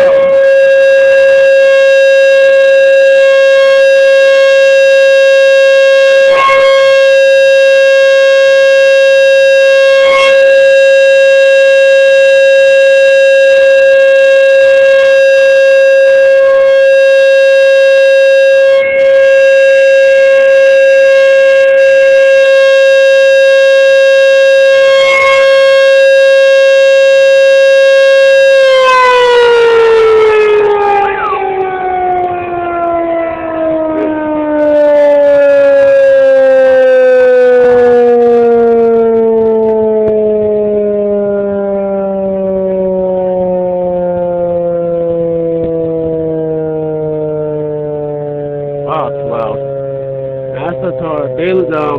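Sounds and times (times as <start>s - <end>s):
tornado siren steady tone: 0.0s - 51.9s.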